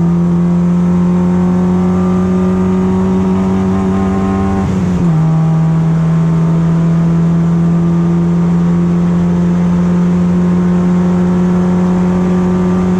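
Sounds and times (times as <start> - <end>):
race car engine droning: 0.0 - 12.9.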